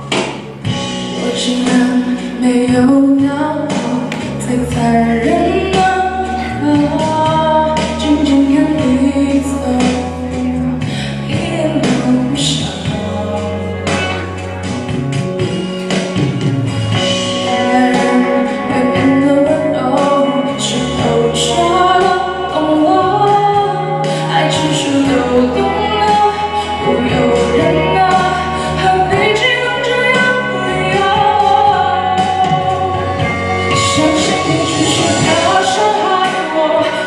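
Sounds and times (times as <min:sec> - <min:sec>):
instrumental accompaniment with drums: 0:00.0 - 0:37.0
woman singing pop ballad: 0:00.1 - 0:14.3, 0:16.9 - 0:37.0.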